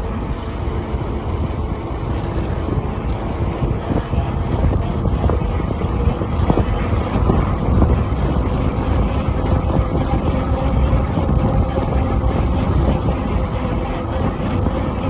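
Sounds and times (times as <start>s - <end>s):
bicycle tyres rolling on tarmac: 0.0s - 15.0s
wind buffeting microphone: 0.0s - 15.0s.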